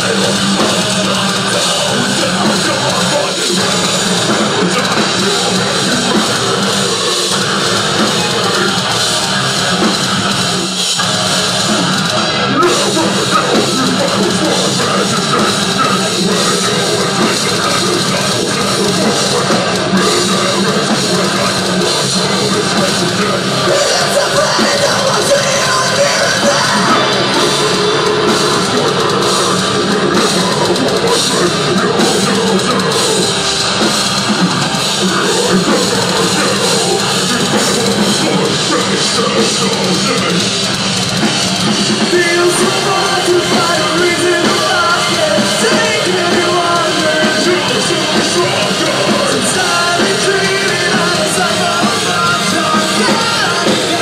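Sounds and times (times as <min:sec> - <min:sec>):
bass guitar: 0:00.0 - 0:54.0
drum kit: 0:00.0 - 0:54.0
electric guitars: 0:00.0 - 0:54.0
person singing into a microphone: 0:00.0 - 0:54.0.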